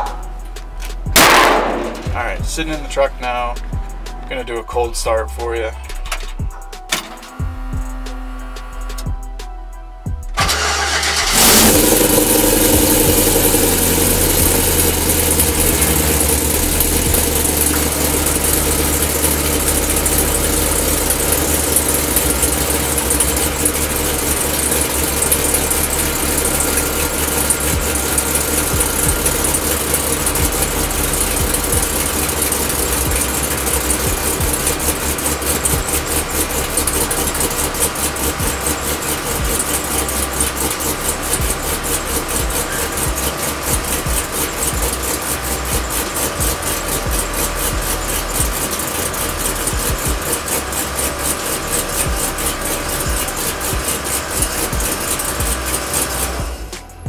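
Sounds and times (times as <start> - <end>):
car engine fast idle: 0.0 - 9.3, 10.3 - 57.0.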